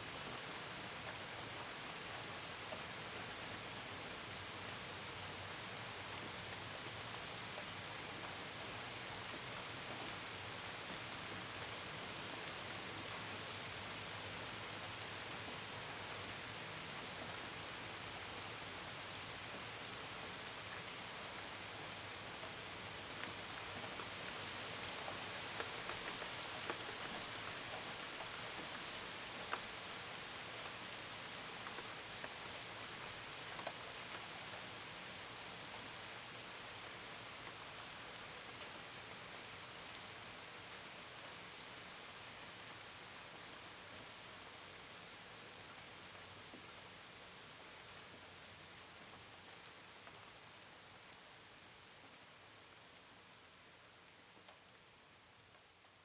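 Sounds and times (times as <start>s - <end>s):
steady gentle rain: 0.0s - 56.0s.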